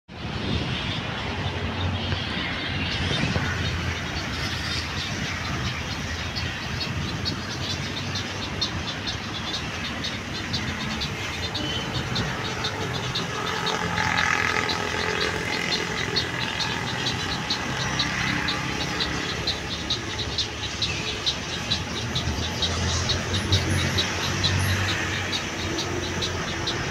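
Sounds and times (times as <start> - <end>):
road traffic with low hum: 0.1 - 26.9.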